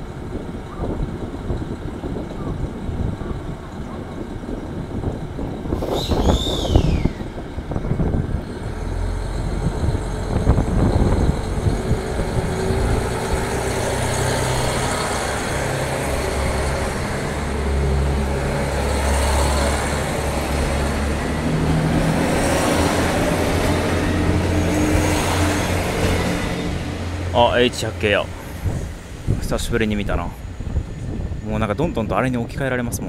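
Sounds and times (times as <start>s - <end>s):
train engine hum: 0.0s - 33.0s
train wheel and running noise: 0.0s - 33.0s.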